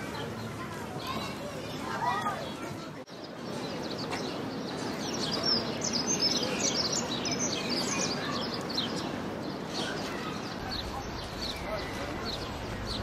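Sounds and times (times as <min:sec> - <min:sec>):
low background murmur: 0:00.0 - 0:13.0
small birds chirping: 0:00.0 - 0:13.0.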